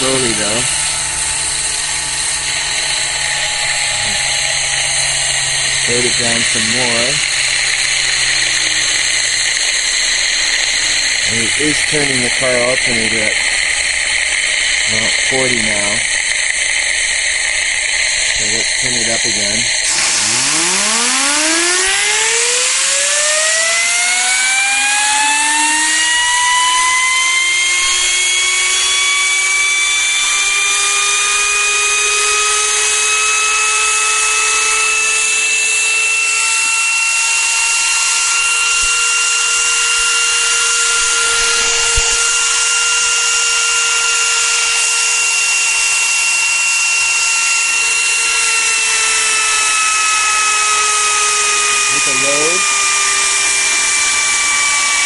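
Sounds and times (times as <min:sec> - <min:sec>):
turbine high whine: 0:00.0 - 0:55.0.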